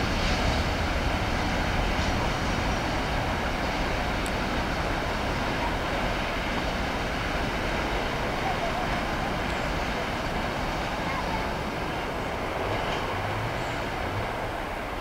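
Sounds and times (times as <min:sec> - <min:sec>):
freight train rumbling on rails: 0:00.0 - 0:15.0.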